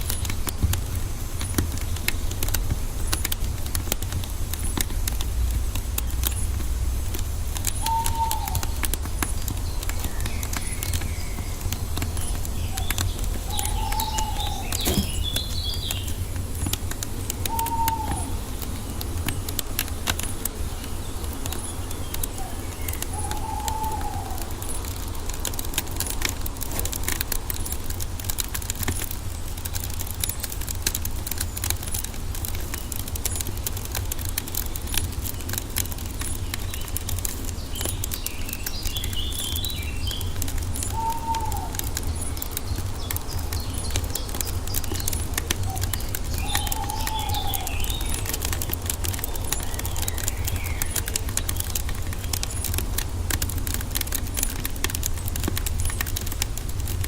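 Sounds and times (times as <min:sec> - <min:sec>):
birds chirping: 0:00.0 - 0:57.0
wood fire crackling: 0:00.0 - 0:57.0.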